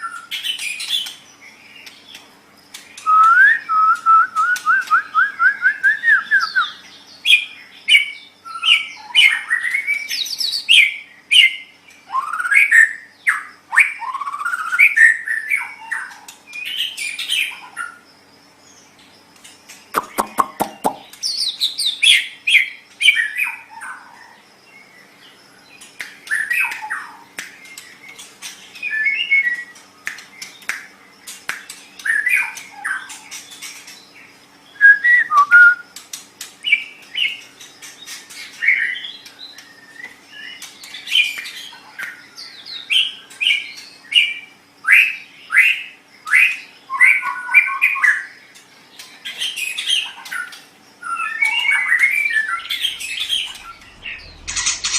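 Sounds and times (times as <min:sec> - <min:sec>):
songbird singing: 0:00.0 - 0:54.9.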